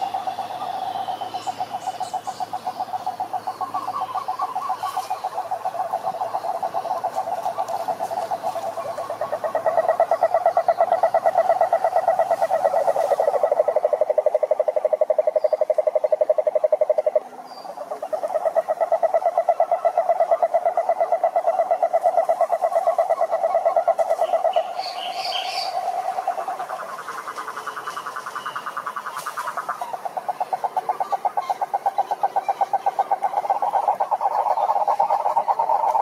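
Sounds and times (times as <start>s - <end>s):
toads trilling: 0.0s - 36.0s.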